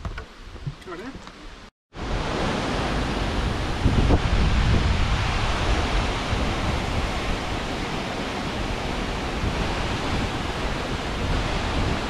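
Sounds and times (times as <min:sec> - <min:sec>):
waterfall rushing: 0:02.0 - 0:12.0
wind buffeting the microphone: 0:02.0 - 0:12.0.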